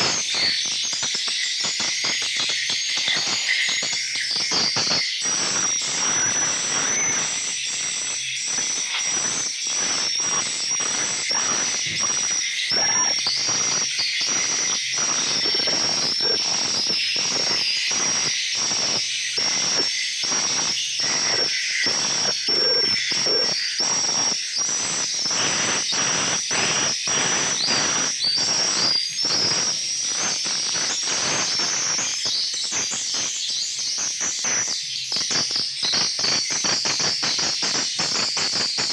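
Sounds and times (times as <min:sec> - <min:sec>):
swiftlets twittering: 0:00.0 - 0:32.3.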